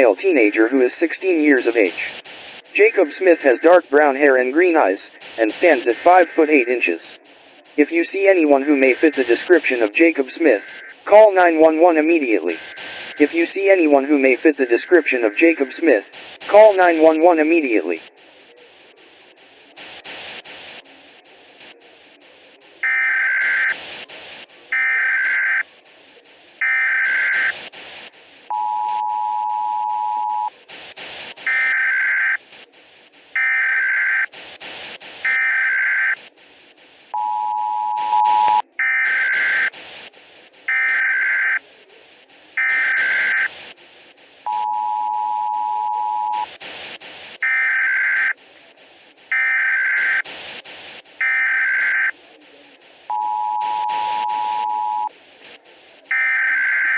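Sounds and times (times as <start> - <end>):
digital data bursts: 0.0 - 18.8, 22.8 - 56.9.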